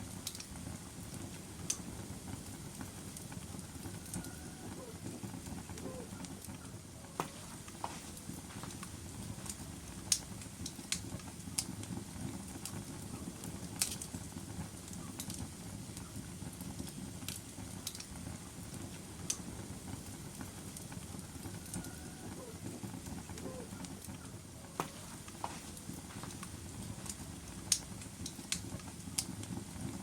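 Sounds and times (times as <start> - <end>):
fire crackling and popping: 0.0 - 30.0
fire rumbling: 0.0 - 30.0.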